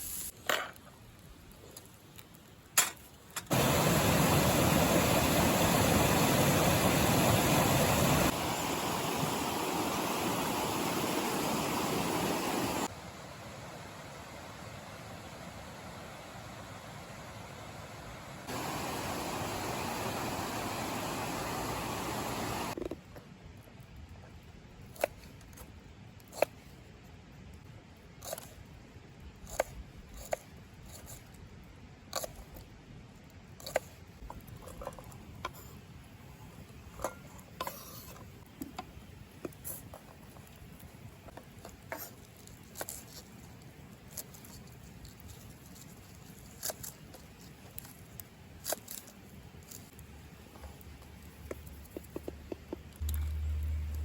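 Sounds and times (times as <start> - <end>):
faint hiss: 0.0 - 54.0.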